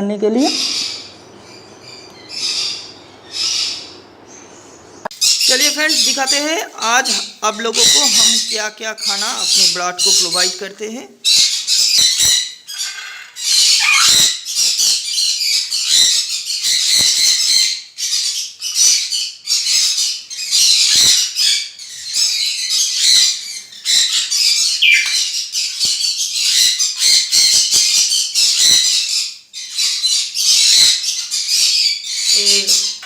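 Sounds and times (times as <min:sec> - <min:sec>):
conures squawking: 0:00.4 - 0:33.0.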